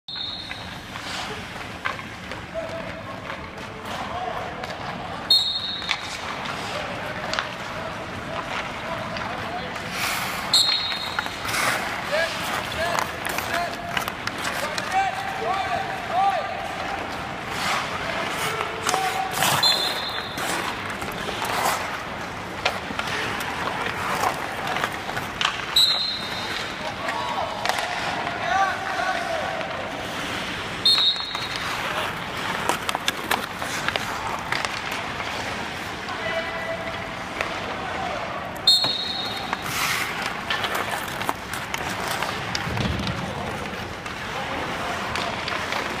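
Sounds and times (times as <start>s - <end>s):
skates scraping on ice: 0.1s - 46.0s
sticks and puck clacking: 0.1s - 46.0s.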